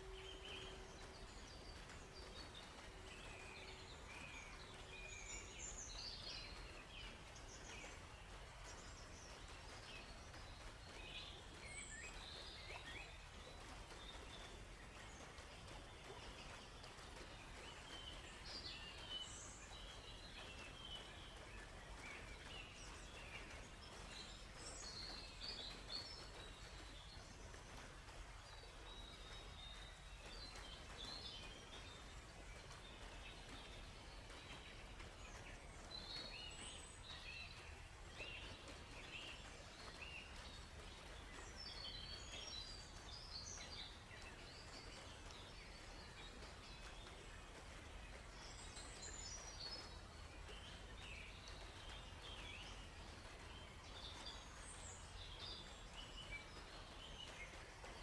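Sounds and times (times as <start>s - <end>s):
low background hiss: 0.0s - 58.0s
songbirds chirping: 0.0s - 58.0s.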